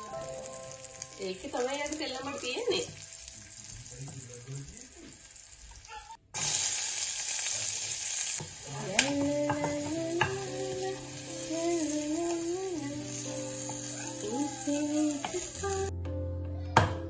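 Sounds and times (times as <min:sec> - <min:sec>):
vegetables sizzling in oil: 0:00.0 - 0:15.9.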